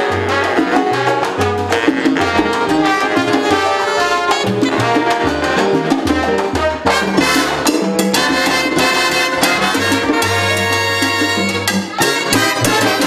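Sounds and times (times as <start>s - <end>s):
salsa big band playing: 0.0s - 13.0s.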